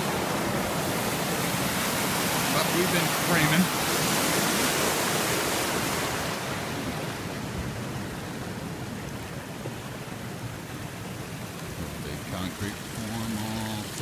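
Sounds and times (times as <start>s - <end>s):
white water rushing: 0.0s - 14.0s.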